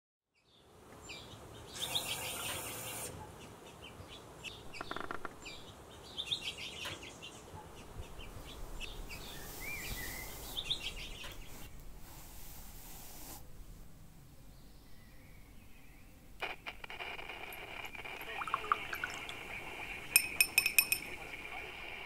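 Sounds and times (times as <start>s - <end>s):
songbirds chirping: 0.3s - 12.5s, 13.6s - 22.0s.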